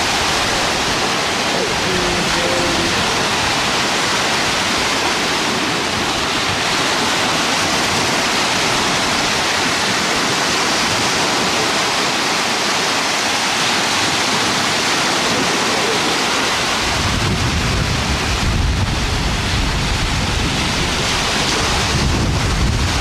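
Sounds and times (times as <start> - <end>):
surf breaking on shore: 0.0 - 23.0.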